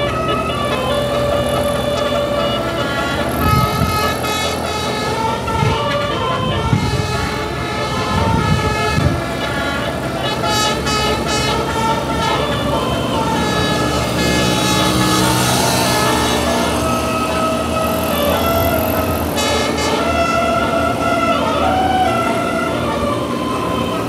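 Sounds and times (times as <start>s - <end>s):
multi-tone air horns playing a tune: 0.0s - 24.0s.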